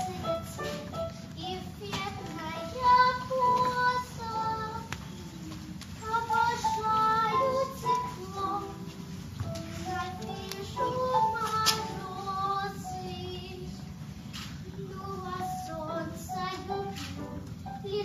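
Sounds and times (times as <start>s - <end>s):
girl singing: 0.0s - 18.0s.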